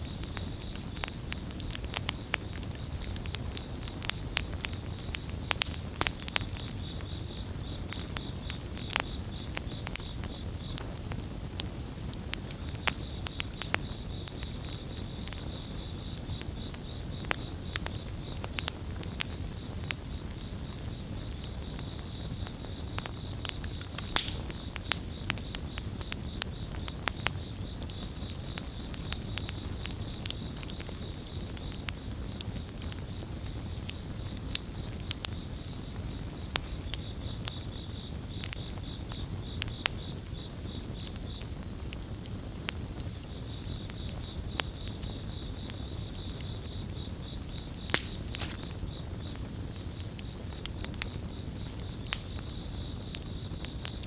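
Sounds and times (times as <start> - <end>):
campfire crackling: 0.0 - 54.0
crickets chirping: 0.0 - 54.0.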